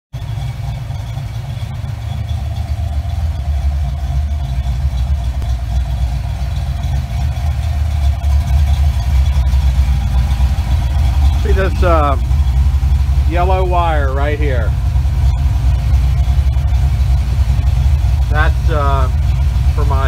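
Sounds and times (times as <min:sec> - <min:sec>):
car engine idling: 0:00.1 - 0:20.0.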